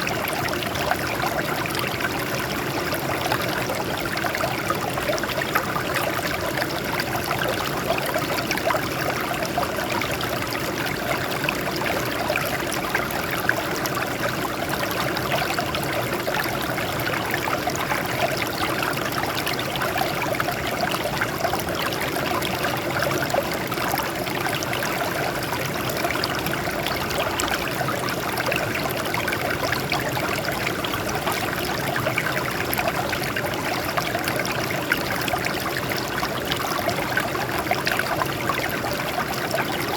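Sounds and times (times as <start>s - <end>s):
water trickling over rocks: 0.0s - 39.9s.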